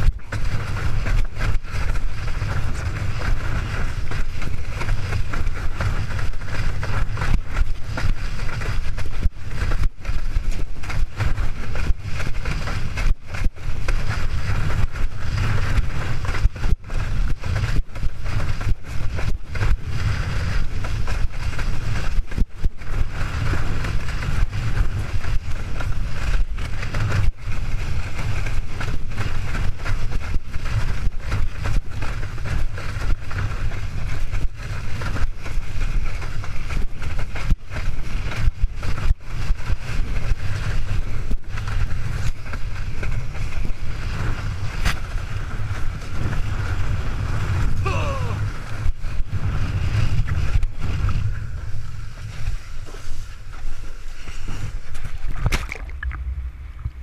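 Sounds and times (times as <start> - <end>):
water rushing under windsurf board: 0.0 - 57.0
wind buffeting microphone: 0.0 - 57.0.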